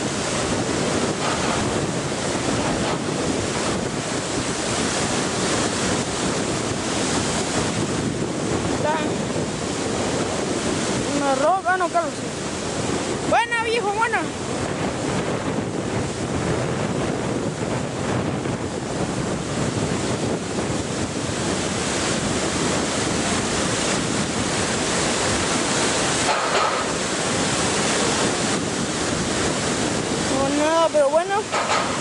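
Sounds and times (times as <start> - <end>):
river water rushing over rocks: 0.0 - 15.1, 18.9 - 32.0.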